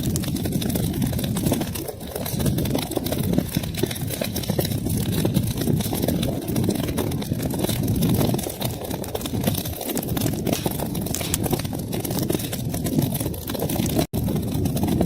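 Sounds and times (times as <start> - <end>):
fire crackles and pops: 0.0 - 15.0
low roar of flames: 0.0 - 15.0.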